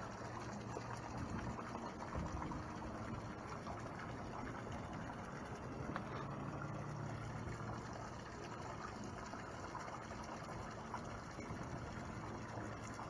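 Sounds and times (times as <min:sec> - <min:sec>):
water lapping against dock: 0:00.0 - 0:13.0.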